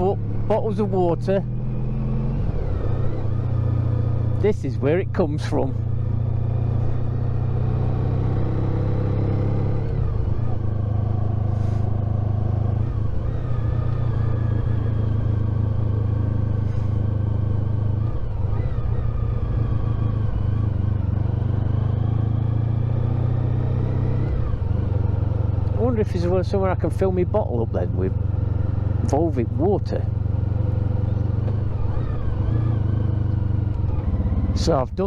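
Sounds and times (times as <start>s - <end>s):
motorcycle engine humming: 0.0s - 35.0s.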